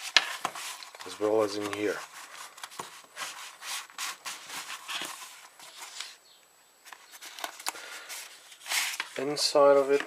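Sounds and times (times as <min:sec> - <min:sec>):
cloth rustling and rubbing: 0:00.0 - 0:06.2, 0:07.0 - 0:10.0.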